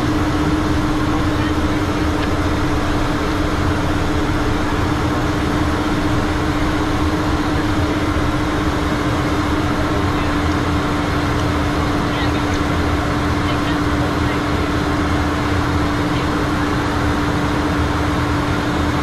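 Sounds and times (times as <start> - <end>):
aircraft engine noise: 0.0 - 19.0
constant hum: 0.0 - 19.0.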